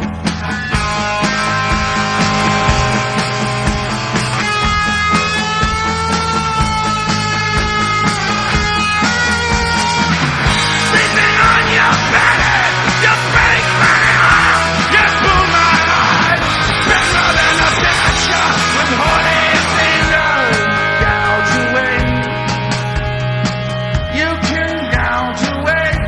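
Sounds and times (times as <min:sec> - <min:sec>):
rock music: 0:00.0 - 0:26.0.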